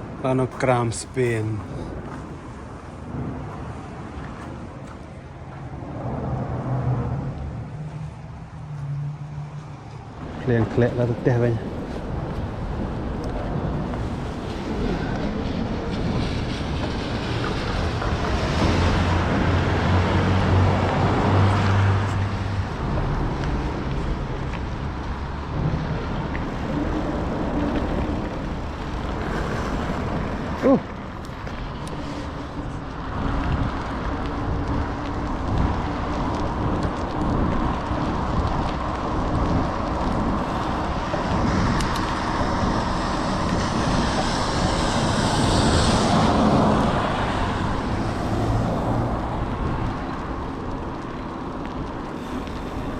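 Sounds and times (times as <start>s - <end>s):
road and wind noise: 0.0s - 52.9s
vehicle engine hum: 4.3s - 52.9s.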